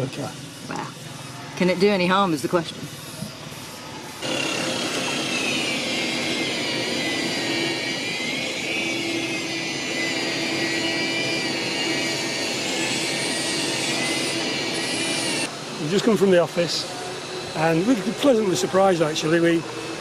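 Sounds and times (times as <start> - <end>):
electric polisher whine: 0.0 - 20.0.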